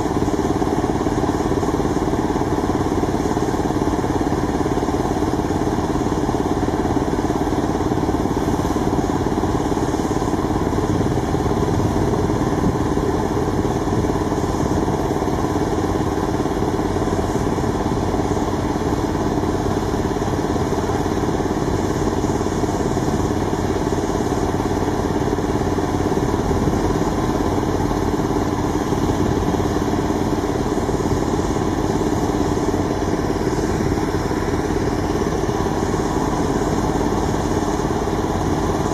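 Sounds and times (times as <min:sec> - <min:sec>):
engine droning steadily: 0:00.0 - 0:38.9.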